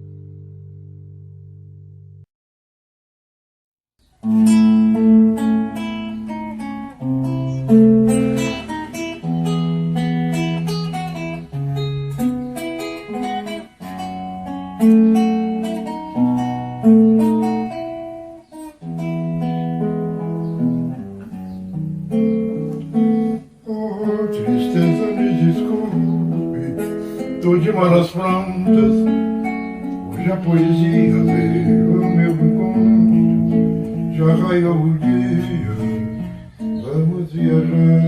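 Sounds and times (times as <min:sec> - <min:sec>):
acoustic guitar melody: 0:00.0 - 0:02.3, 0:04.0 - 0:38.0.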